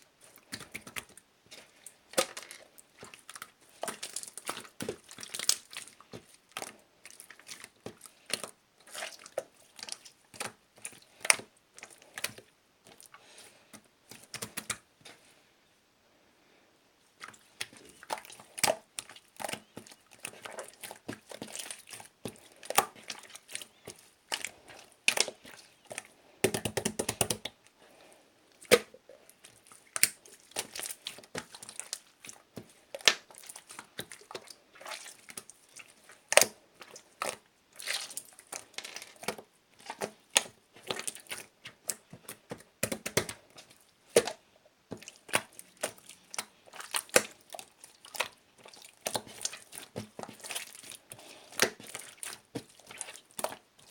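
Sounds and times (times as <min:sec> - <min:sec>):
slime squelching: 0:00.0 - 0:15.4, 0:17.0 - 0:53.9.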